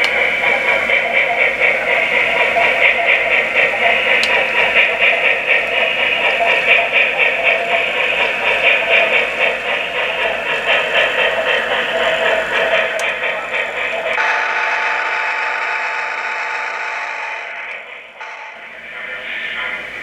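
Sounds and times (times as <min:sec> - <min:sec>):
model steam locomotive chuffing: 0:00.0 - 0:20.0.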